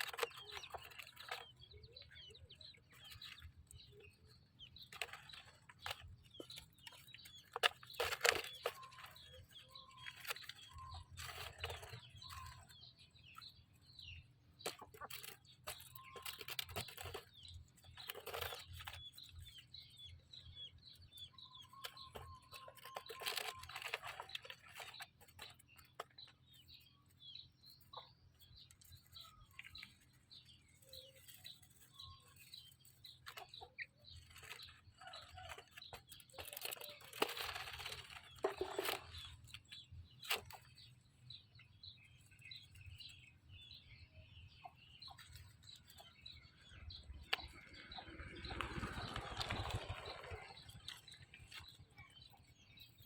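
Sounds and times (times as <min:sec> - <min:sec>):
chicks peeping: 0:00.0 - 0:53.0.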